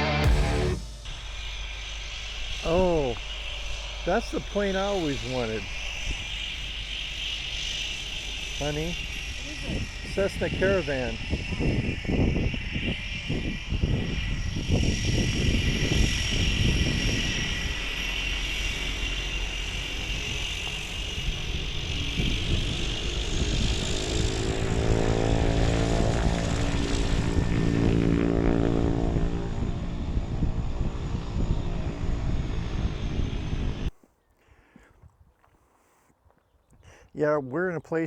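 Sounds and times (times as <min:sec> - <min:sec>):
low propeller drone: 0:00.0 - 0:33.9
turbine whine: 0:00.0 - 0:34.0.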